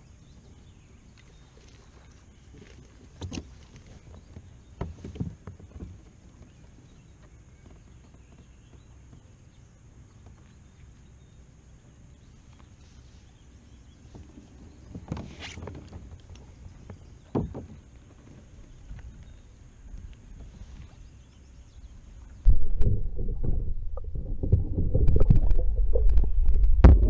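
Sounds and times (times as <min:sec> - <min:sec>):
water lapping around kayak: 0:00.0 - 0:27.0
wind: 0:00.0 - 0:27.0.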